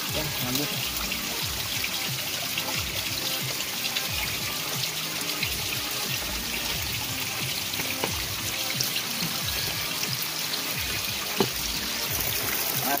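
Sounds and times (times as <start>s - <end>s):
background music: 0.0s - 13.0s
river water running: 0.0s - 13.0s.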